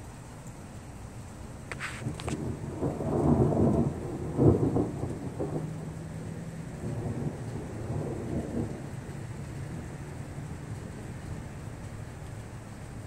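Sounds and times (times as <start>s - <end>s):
thunder rumbling: 1.9s - 13.0s.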